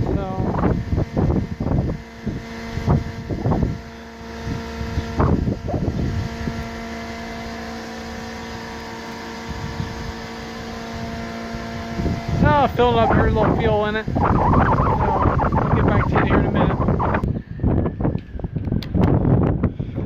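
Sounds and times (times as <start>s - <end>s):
wind buffeting microphone: 0.0s - 7.5s, 9.4s - 20.0s
motor humming: 0.0s - 20.0s.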